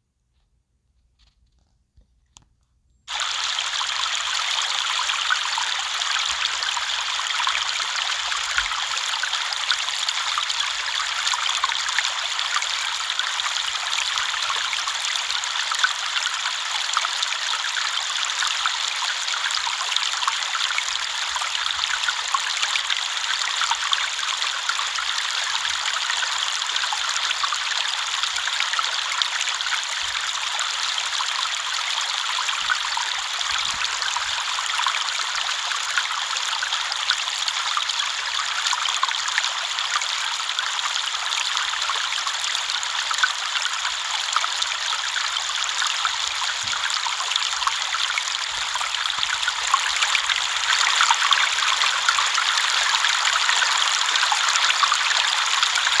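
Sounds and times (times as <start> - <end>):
river water flowing: 3.1 - 56.0.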